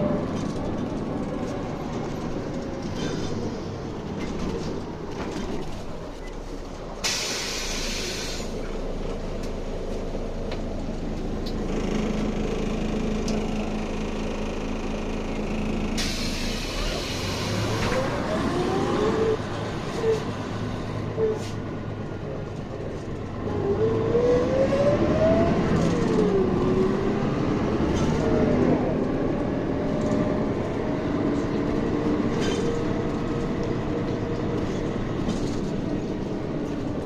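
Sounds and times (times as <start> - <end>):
bus engine running: 0.0 - 37.0
rising whine of bus speeding up: 0.0 - 37.0.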